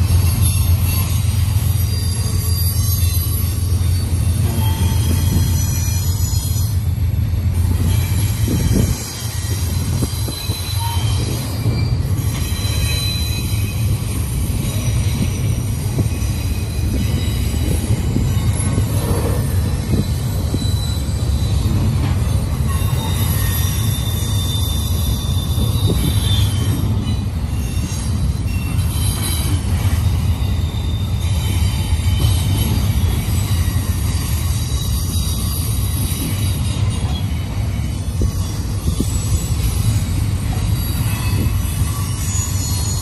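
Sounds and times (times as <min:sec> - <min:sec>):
steel wheel squeal: 0:00.0 - 0:43.0
train wheels rumbling on rail: 0:00.0 - 0:43.0.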